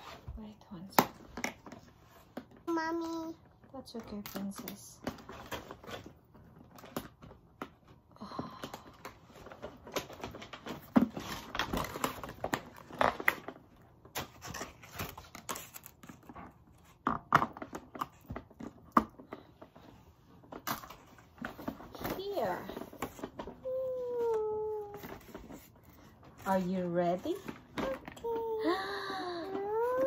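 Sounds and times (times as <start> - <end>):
plastic and cardboard crinkling: 0.0 - 30.0.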